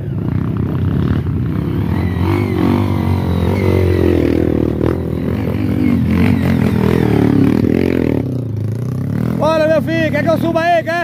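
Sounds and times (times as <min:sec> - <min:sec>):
motorcycle engine revving hard: 0:00.0 - 0:10.6.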